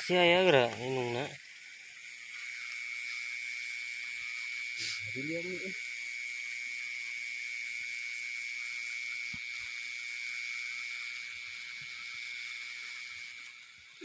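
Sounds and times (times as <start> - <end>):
insect trill: 0.0 - 14.0
shrill insect hiss: 0.0 - 14.0.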